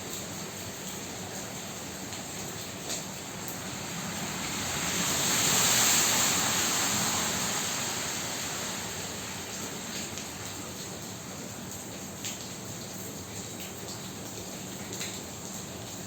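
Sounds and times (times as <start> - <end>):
heavy rain in strong wind: 0.0 - 16.0.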